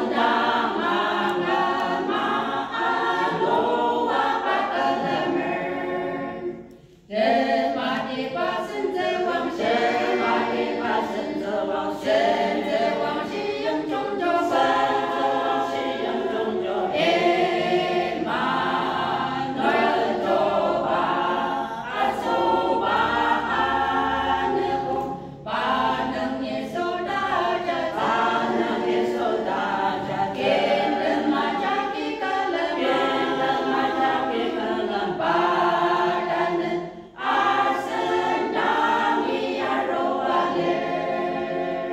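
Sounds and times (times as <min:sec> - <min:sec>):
women's choir singing: 0:00.0 - 0:41.9.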